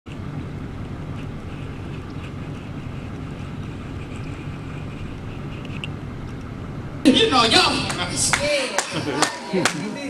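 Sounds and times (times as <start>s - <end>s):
low background rumble: 0.1s - 9.2s.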